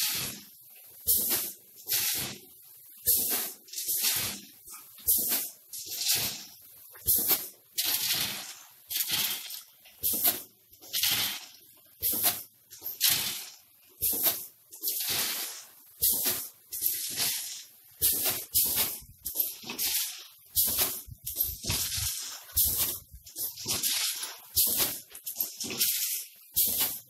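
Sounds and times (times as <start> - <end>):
hissing and rattle bursts: 0.0 - 27.0.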